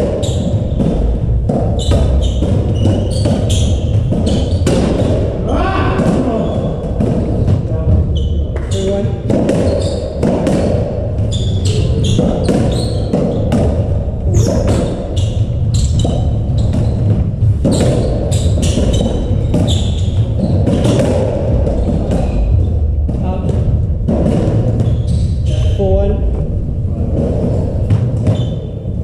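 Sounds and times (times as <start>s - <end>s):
shoes squeaking on wooden floor: 0.0s - 23.5s, 24.6s - 25.9s
ball smacking court walls: 0.0s - 25.3s
rackets striking ball: 0.0s - 25.8s.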